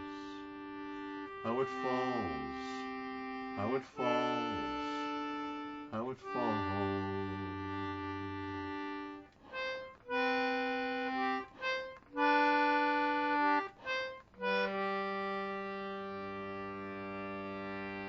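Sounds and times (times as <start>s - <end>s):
concertina chords: 0.0s - 18.0s.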